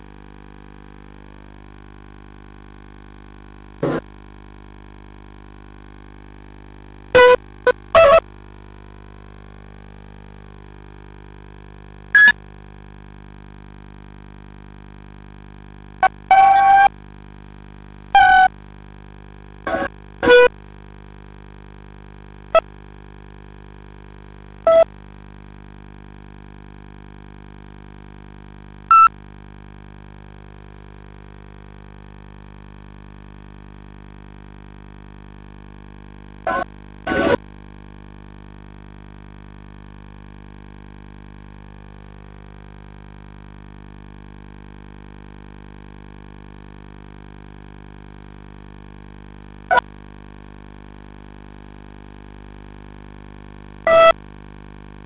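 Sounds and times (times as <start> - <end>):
electrical hum: 0.0 - 1.9, 7.2 - 8.6, 9.5 - 55.0.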